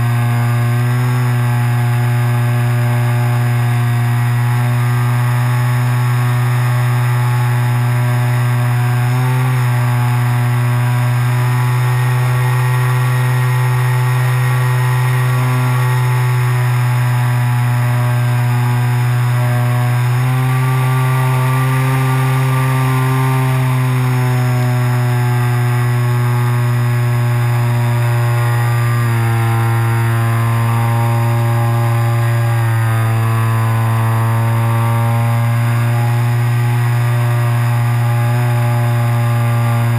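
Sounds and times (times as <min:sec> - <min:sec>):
electric motor and propeller: 0:00.0 - 0:39.9.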